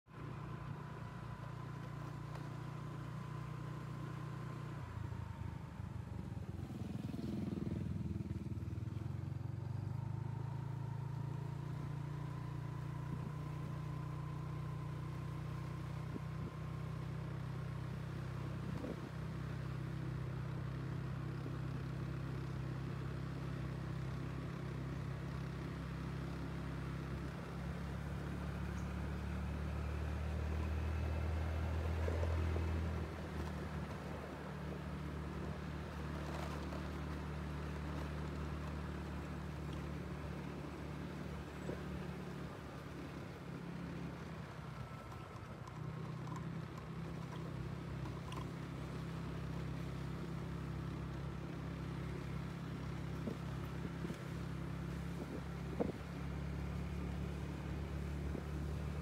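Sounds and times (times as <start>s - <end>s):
motorcycle engine running: 0.1s - 59.0s.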